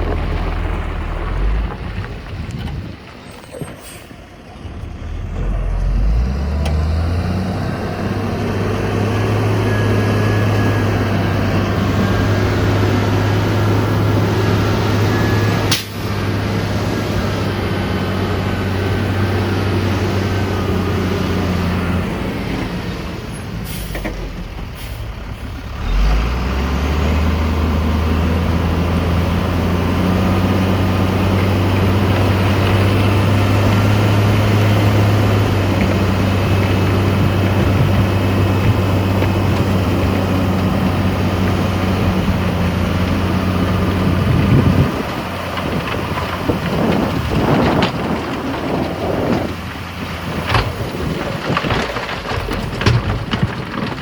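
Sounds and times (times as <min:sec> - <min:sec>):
heavy diesel engine revving: 0:03.8 - 0:51.6.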